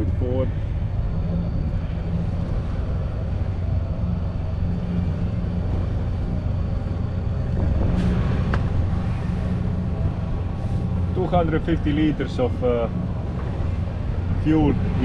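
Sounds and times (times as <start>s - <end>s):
marine diesel engine running: 0.0s - 15.0s.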